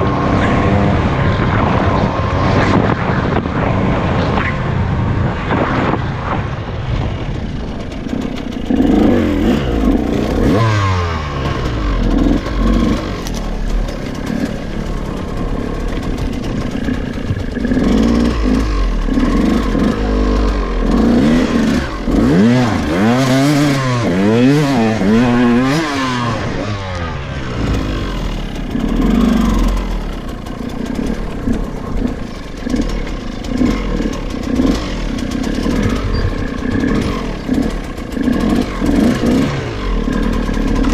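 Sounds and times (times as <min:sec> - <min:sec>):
bike rattling clatter: 0:07.0 - 0:40.9
dirt bike engine revving: 0:07.6 - 0:40.9.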